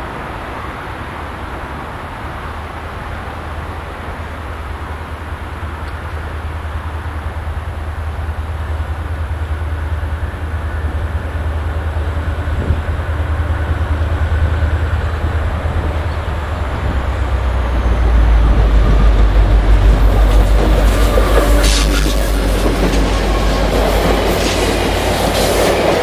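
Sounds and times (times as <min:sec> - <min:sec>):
locomotive engine rumble: 0:02.7 - 0:26.0.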